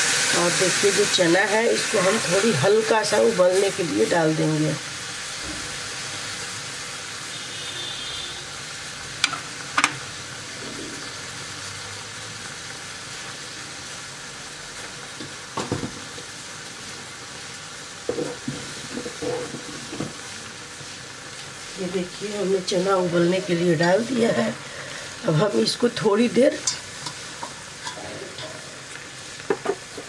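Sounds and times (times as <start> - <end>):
sizzling hiss in pan: 0.0 - 30.0.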